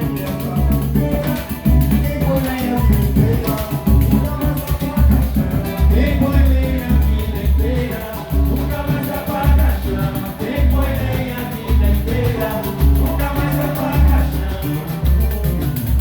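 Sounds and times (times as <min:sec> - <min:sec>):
acoustic guitar: 0:00.0 - 0:16.0
deep drum beat: 0:00.0 - 0:16.0
fast high percussion ticking: 0:00.0 - 0:16.0.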